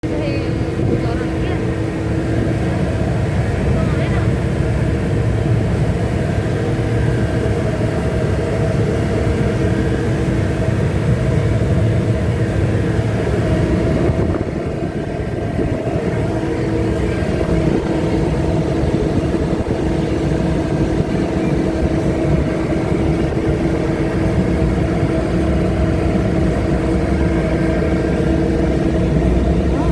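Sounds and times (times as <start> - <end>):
ship engine rumbling: 0.0 - 29.9.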